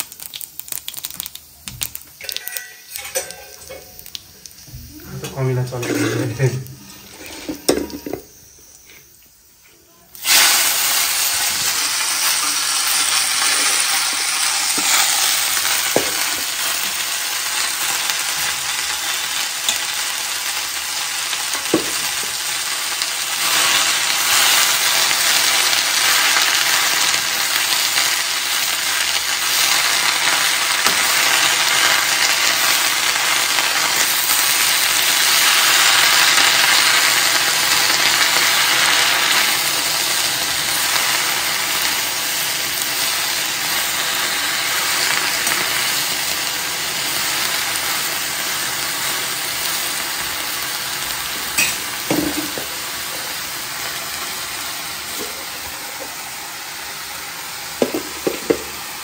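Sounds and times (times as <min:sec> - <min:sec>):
spinach sizzling in hot oil: 0:00.0 - 0:59.0.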